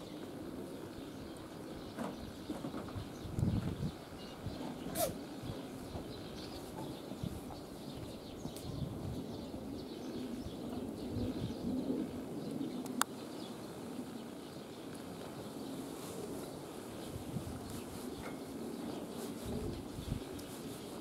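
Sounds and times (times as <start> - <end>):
soft low cooing calls: 0.0 - 21.0.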